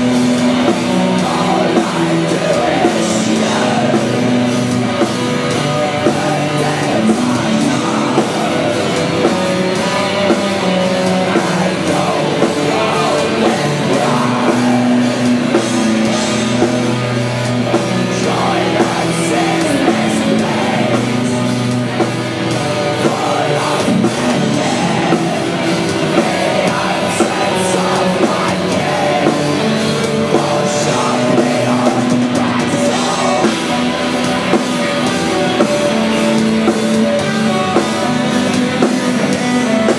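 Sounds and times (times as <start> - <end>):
black metal band playing: 0.0 - 39.9
dense drumming: 0.0 - 39.9
vocals: 0.0 - 39.9.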